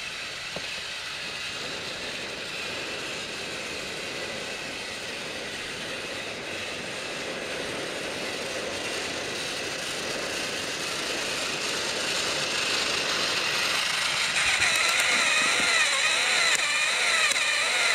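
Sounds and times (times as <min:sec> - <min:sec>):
toy train motors whirring: 0:00.0 - 0:17.9
wavering whine: 0:00.0 - 0:17.9.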